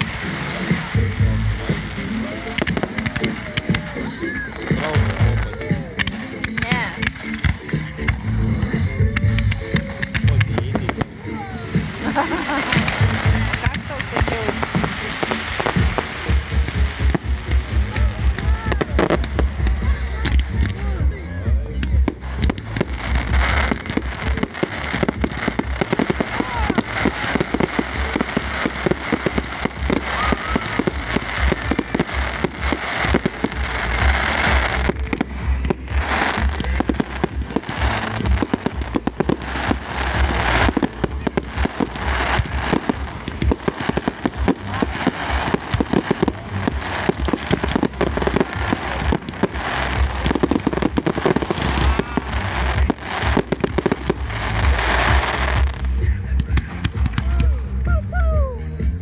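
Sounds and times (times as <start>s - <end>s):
fireworks banging: 0.0s - 57.6s
fireworks crackling: 0.0s - 59.0s.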